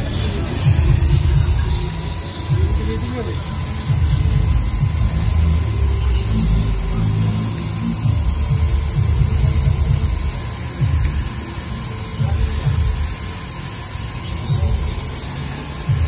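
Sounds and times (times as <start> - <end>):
engraving spindle motor humming: 0.0 - 16.0.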